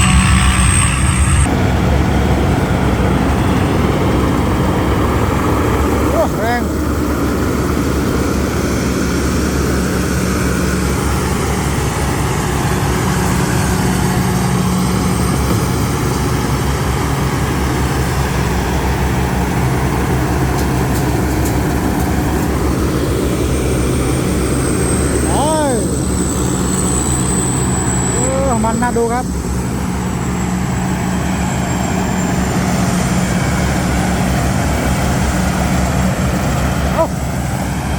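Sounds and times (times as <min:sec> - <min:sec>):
diesel engine droning: 0:00.0 - 0:37.9.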